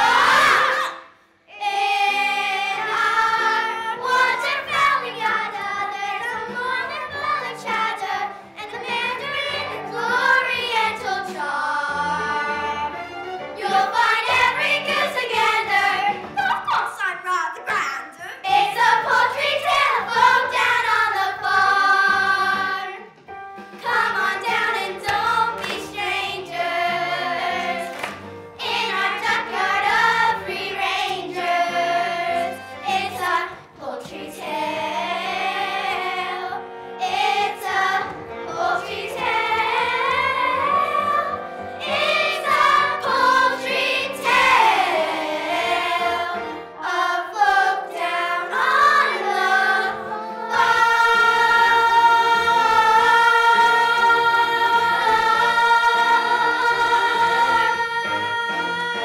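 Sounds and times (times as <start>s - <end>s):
children's chorus singing: 0.0s - 16.6s, 18.4s - 23.2s, 23.8s - 59.0s.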